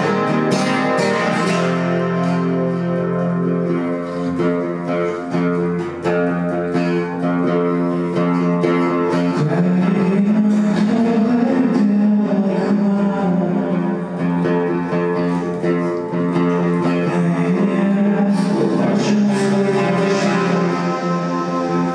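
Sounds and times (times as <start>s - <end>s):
acoustic guitar chords: 0.0s - 21.9s.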